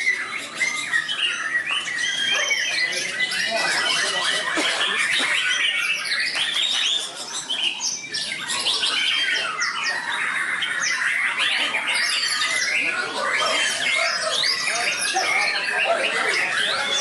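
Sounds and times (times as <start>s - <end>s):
songbirds whistling: 0.0s - 17.0s.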